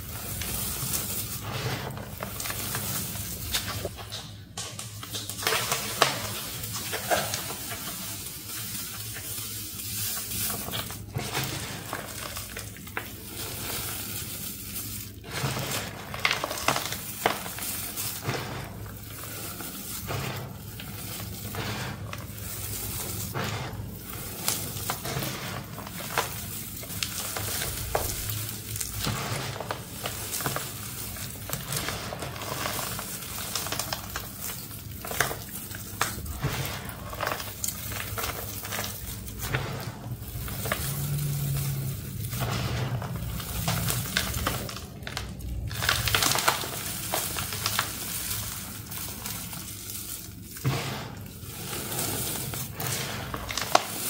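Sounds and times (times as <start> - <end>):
powder crackling through fingers: 0.0 - 54.0.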